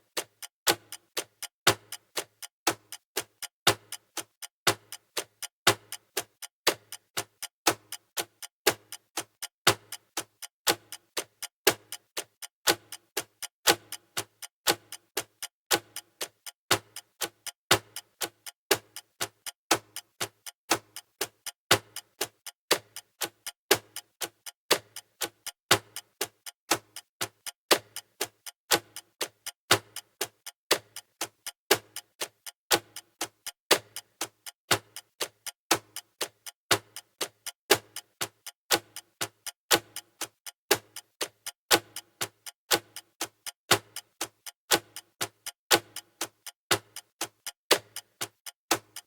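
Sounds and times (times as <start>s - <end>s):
countdown timer ticking: 0.2s - 49.0s.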